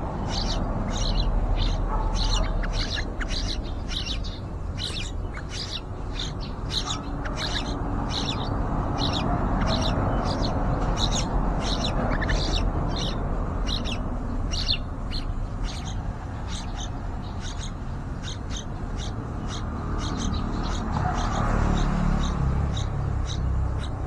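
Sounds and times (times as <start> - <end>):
bird chicks chirping: 0.0 - 24.0.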